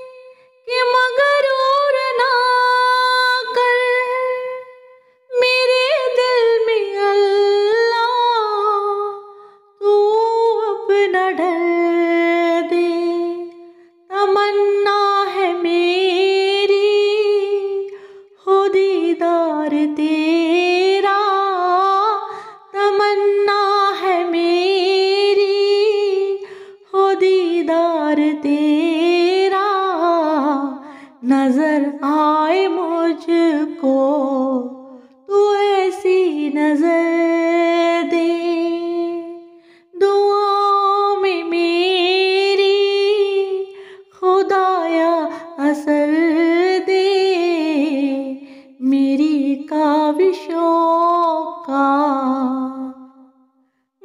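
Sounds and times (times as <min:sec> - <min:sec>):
woman singing unaccompanied: 0:00.0 - 0:09.2, 0:09.8 - 0:53.3.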